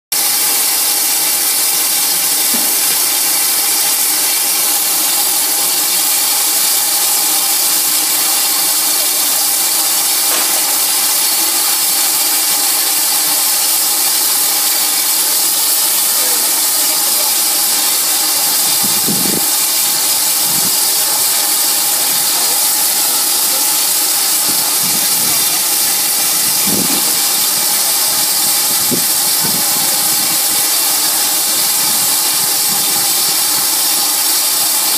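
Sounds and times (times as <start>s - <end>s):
steam locomotive hissing: 0.1s - 34.9s.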